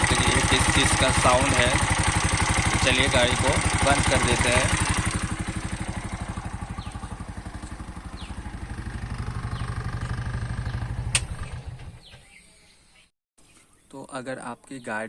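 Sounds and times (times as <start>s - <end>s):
rickshaw engine idling with ticking: 0.0s - 12.2s
engine running down: 0.0s - 12.4s.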